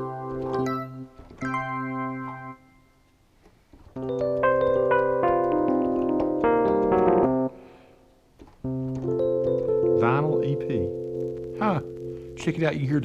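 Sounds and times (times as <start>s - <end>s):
synthesizer keyboard chord: 0.0s - 2.8s, 4.0s - 7.6s, 8.7s - 13.0s.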